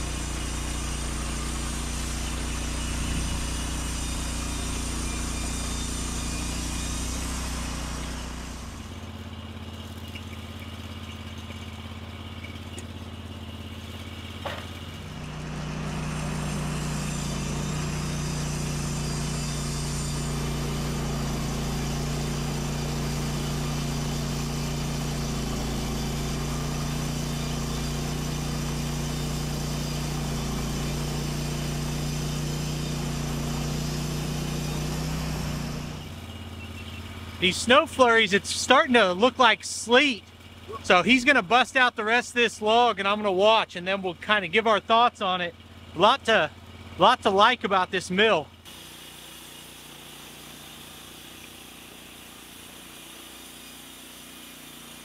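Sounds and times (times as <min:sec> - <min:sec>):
bandsaw mill cutting log: 0:00.0 - 0:55.0.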